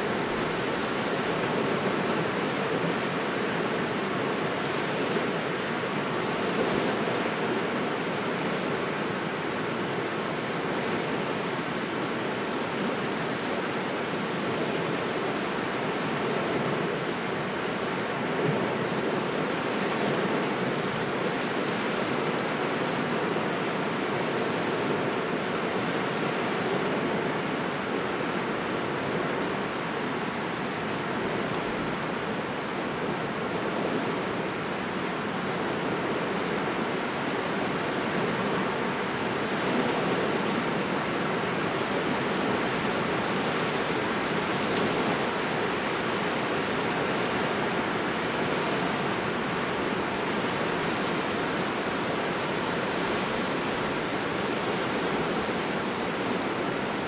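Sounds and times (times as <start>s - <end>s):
cold wind: 0.0s - 57.0s
waves washing on shore: 0.0s - 57.0s.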